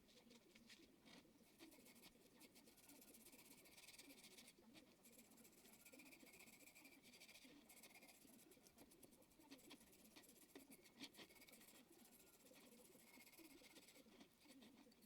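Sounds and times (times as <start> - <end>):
faint scratching and rubbing: 0.0 - 15.0.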